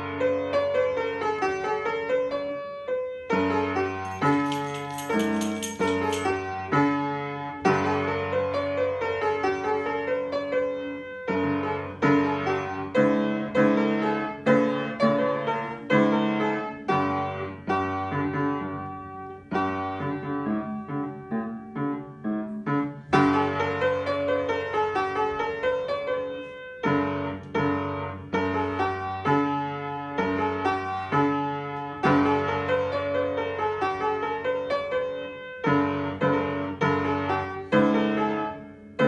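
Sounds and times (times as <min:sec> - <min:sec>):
child playing piano: 0:00.0 - 0:39.0.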